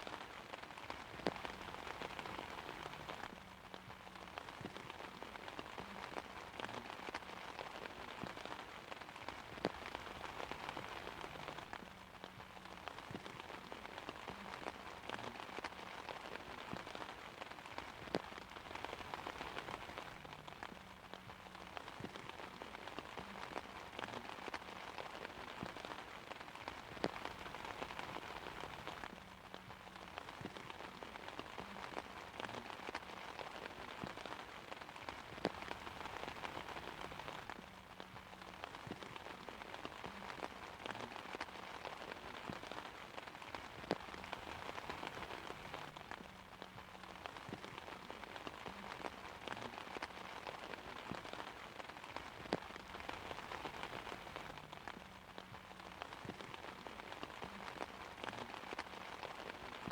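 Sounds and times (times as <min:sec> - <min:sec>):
rain on an umbrella: 0:00.0 - 0:59.9.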